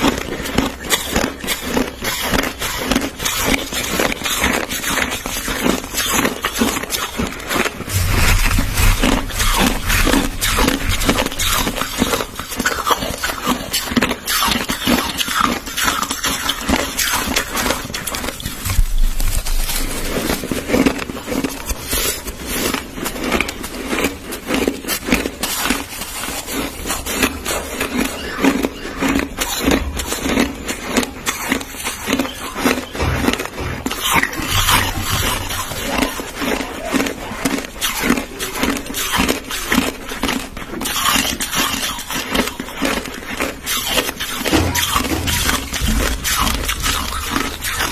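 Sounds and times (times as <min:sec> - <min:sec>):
chewing crushed ice: 0:00.0 - 0:47.9.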